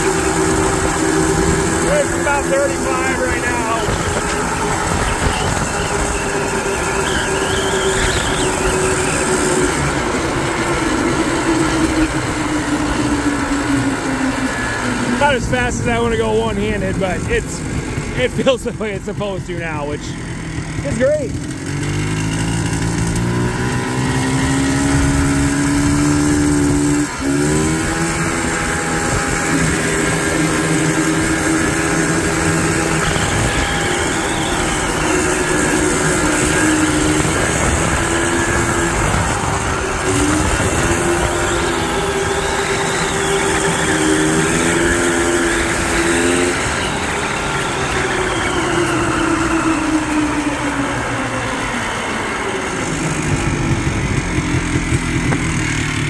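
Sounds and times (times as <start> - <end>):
three-wheeler engine running: 0.0 - 56.0.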